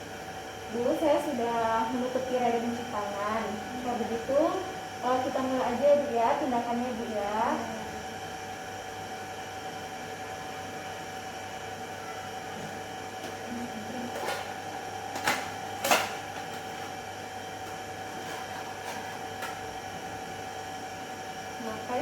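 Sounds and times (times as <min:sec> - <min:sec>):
steady hum of fixed tones: 0:00.0 - 0:22.0.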